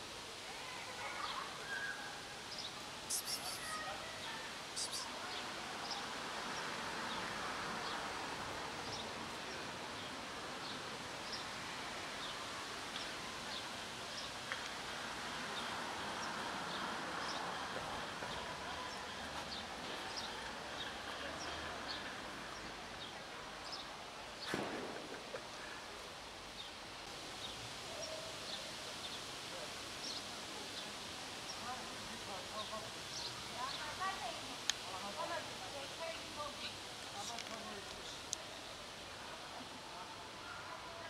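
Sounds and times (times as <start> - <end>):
steady outdoor hiss: 0.0 - 41.0.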